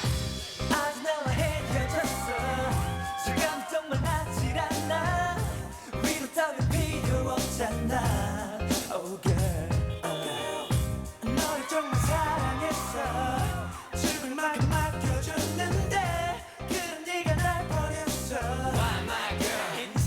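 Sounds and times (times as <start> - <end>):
upbeat dance track with singing: 0.0 - 20.0.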